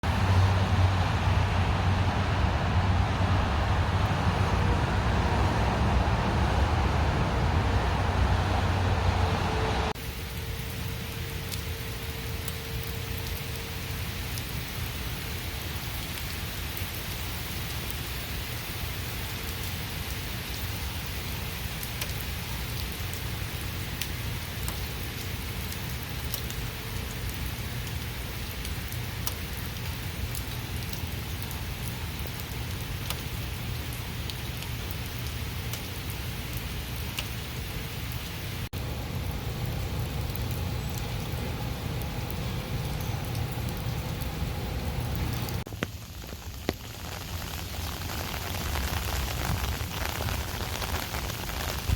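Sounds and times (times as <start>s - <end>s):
steady rain hiss: 0.0s - 51.9s
raindrops ticking sharply: 9.9s - 51.9s.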